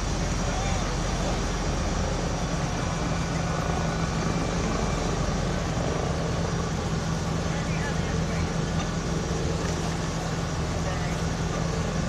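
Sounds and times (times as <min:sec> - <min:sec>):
engines droning: 0:00.0 - 0:12.0.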